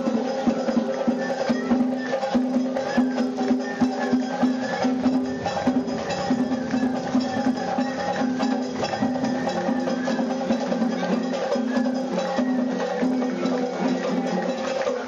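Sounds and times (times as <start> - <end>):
rapid drum and wood block strikes: 0.0 - 15.0
held notes: 0.6 - 15.0.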